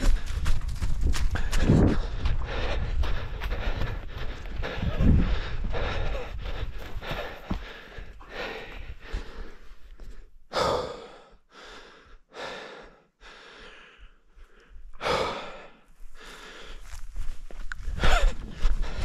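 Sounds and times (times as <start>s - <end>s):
person breathing heavily: 0.0s - 0.6s, 1.2s - 19.0s.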